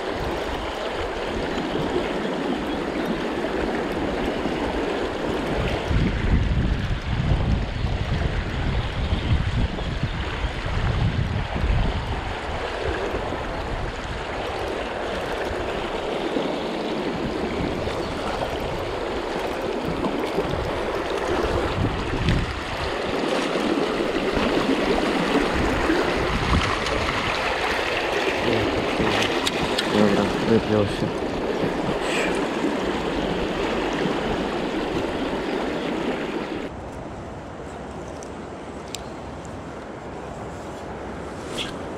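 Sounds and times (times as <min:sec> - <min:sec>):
river water rushing and splashing: 0:00.0 - 0:41.9
wind rumbling on microphone: 0:00.0 - 0:41.9.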